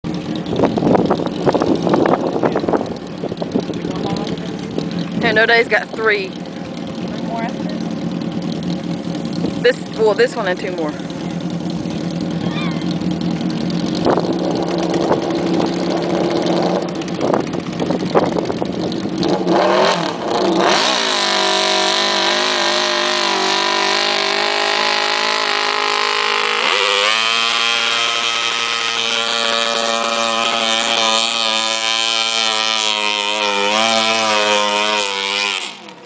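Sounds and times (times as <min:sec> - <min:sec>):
lawn mower engine revving: 0:00.0 - 0:36.0.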